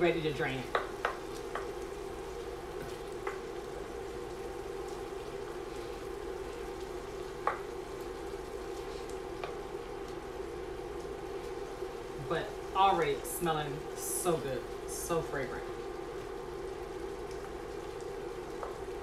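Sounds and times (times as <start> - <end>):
meat sizzling in a pot: 0.0 - 19.0.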